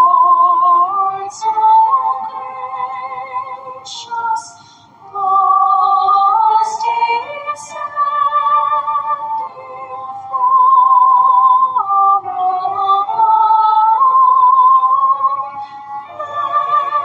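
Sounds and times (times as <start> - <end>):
person singing a hymn: 0.0 - 17.0.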